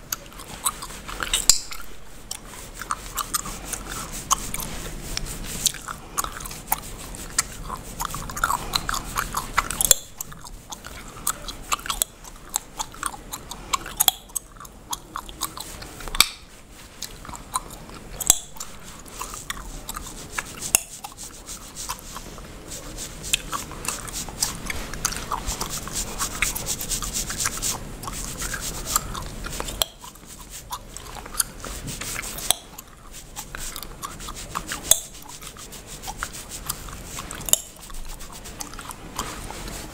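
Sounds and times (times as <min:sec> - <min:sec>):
cotton pad scrubbing scalp: 0:00.0 - 0:39.9.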